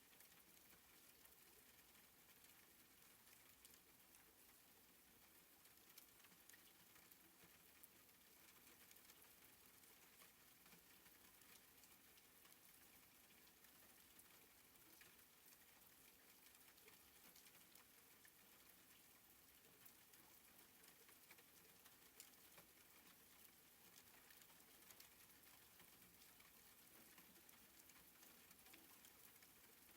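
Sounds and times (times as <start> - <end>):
gentle rain patter: 0.0 - 29.9
raindrops ticking: 0.1 - 29.9.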